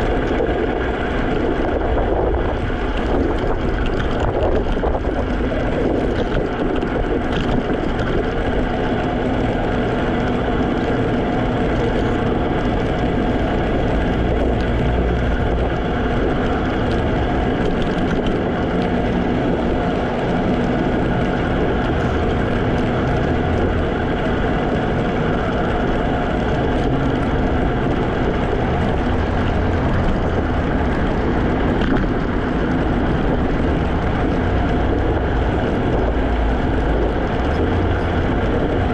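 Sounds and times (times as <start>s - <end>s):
electric scooter rolling: 0.0s - 38.9s.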